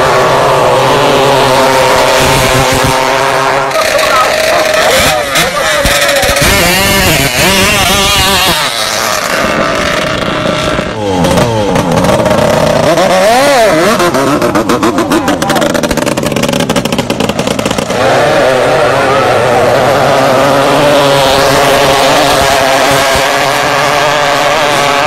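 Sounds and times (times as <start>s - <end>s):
boat engines revving: 0.0s - 25.0s.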